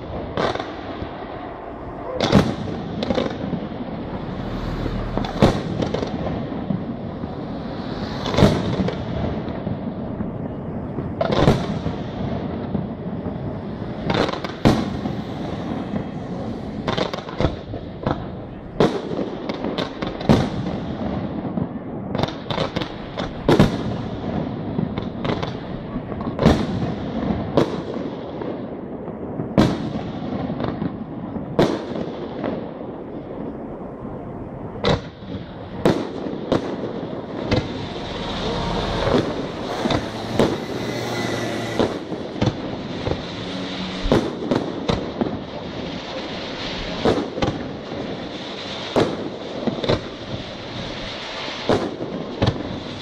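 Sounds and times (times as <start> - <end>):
firework rumble and crackle: 0.0 - 53.0.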